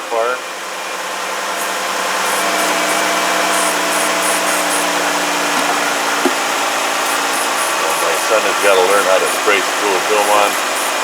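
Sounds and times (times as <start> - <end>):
car engine idling: 0.2 - 11.0
aerosol can spraying: 1.6 - 11.0.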